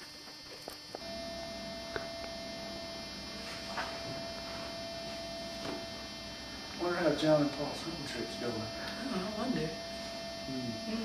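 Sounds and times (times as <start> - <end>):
electrical hum with whine: 0.0 - 11.0.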